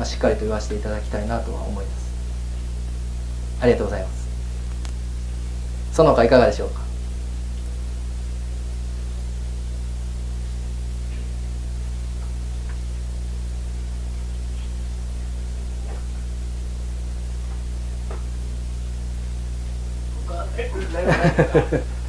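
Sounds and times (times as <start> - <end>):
electrical hum with hiss: 0.0 - 22.0.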